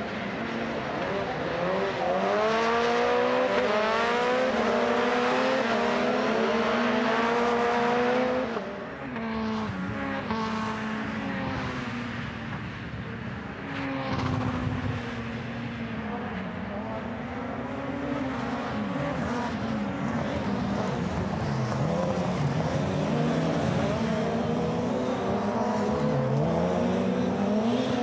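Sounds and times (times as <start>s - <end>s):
racing car engines revving: 0.0s - 28.0s.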